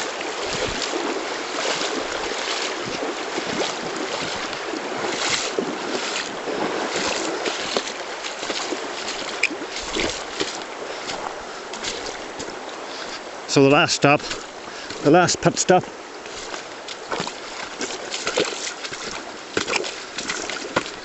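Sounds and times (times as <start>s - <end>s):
person wading splashing: 0.0s - 21.0s
river rushing over stones: 0.0s - 21.0s.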